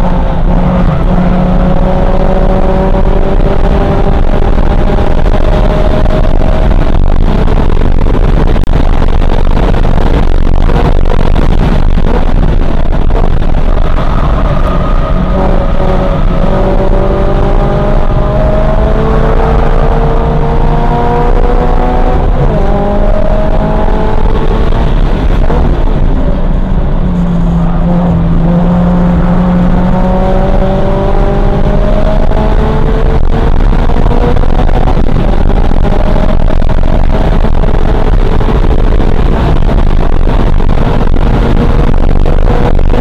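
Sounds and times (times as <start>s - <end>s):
engine pulling under full throttle: 0.0s - 43.0s
tyre and road noise: 0.0s - 43.0s.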